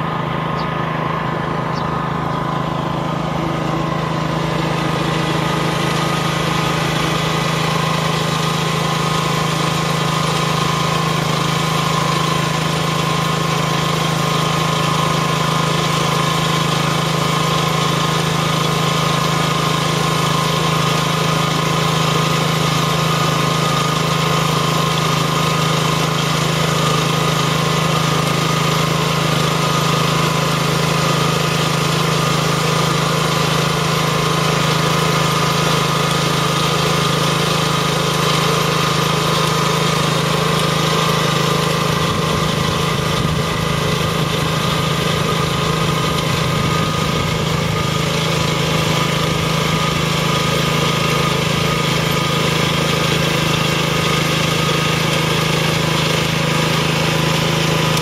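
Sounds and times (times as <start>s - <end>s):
transplanter engine running: 0.0s - 58.0s.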